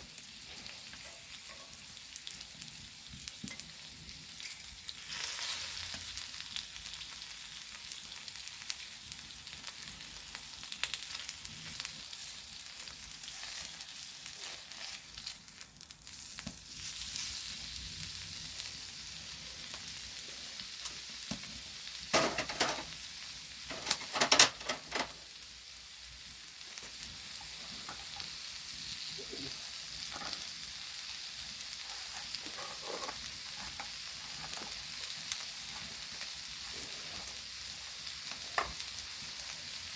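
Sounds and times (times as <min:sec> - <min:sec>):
meat sizzling on a griddle: 0:00.0 - 0:39.9.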